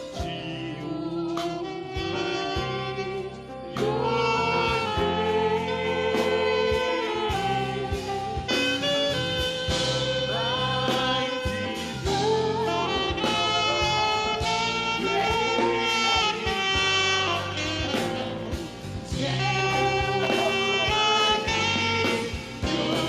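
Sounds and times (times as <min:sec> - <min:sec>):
saxophone slow sliding melody: 0:00.0 - 0:23.0.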